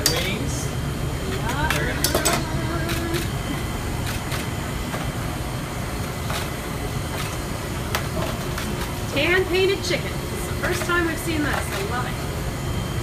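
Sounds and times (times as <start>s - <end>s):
kitchen rumble: 0.0s - 12.6s.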